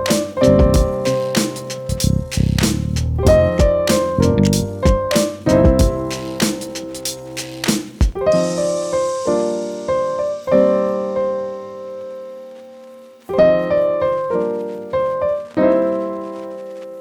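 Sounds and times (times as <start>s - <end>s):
slow piano music: 0.0s - 7.5s, 8.1s - 17.0s.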